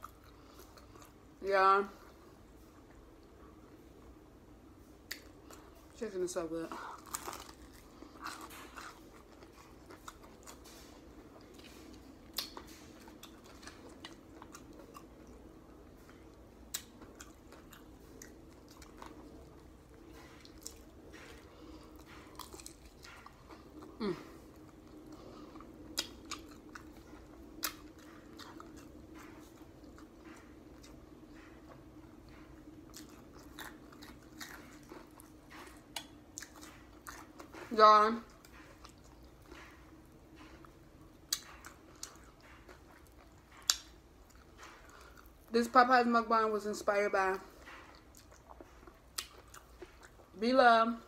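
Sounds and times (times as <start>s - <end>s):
chewing crispy fried chicken: 0.0s - 3.8s, 4.8s - 45.8s, 47.2s - 51.0s.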